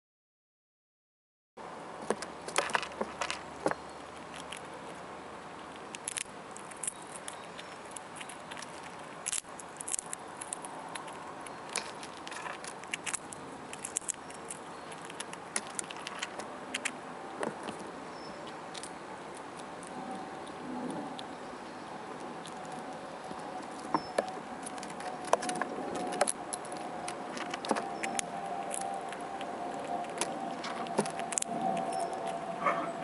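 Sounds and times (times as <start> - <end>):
squirrel nibbling clicks: 2.5 - 32.4.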